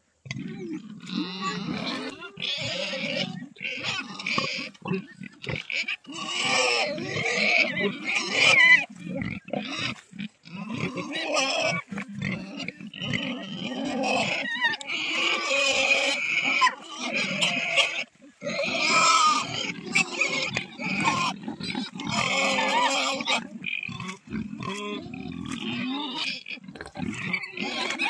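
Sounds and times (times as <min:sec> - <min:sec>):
pigs squealing and grunting: 0:00.3 - 0:28.0.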